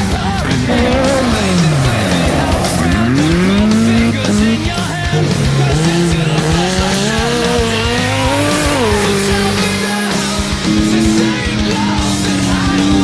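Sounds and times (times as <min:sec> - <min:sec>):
background music: 0:00.0 - 0:13.0
buggy engine revving hard: 0:00.0 - 0:13.0.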